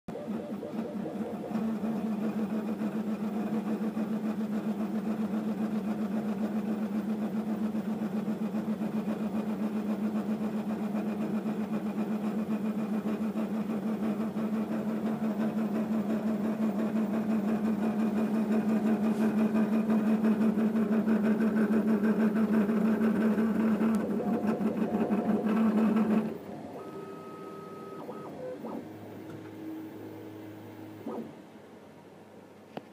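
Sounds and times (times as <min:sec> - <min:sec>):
printer motors buzzing hum: 0:00.1 - 0:31.6.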